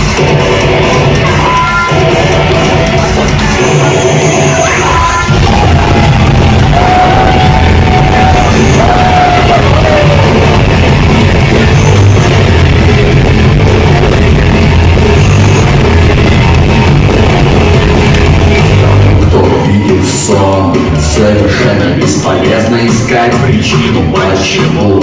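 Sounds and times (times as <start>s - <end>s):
live rock band with distorted guitars: 0.0s - 25.0s.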